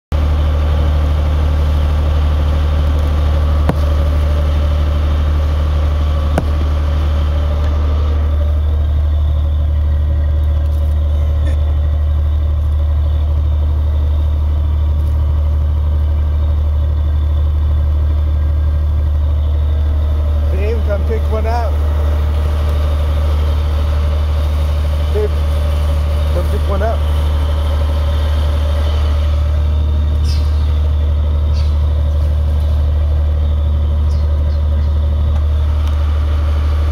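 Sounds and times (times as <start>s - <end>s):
boat engine idling: 0.1s - 36.9s.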